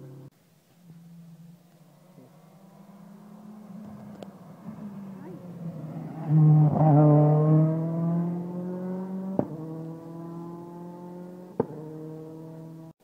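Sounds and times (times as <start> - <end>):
rally car engine accelerating: 0.0 - 12.9.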